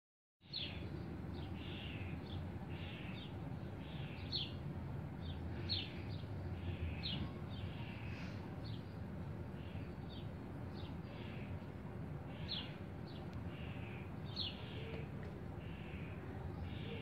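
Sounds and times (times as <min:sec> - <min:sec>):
songbird chirping: 0:00.4 - 0:17.0.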